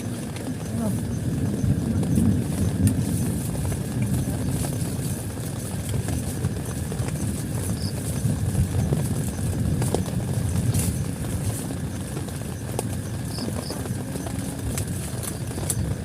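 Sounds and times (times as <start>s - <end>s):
heavy rain drumming on a tent: 0.0s - 16.0s.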